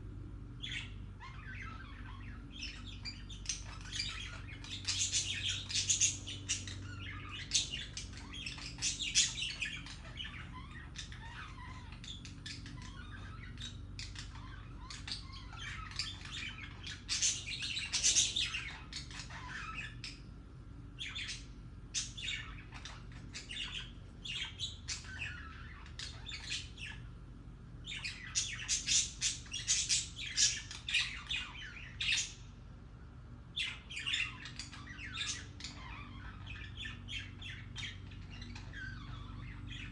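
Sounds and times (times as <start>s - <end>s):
budgerigars chattering: 0.6s - 27.1s, 27.8s - 32.5s, 33.5s - 39.9s.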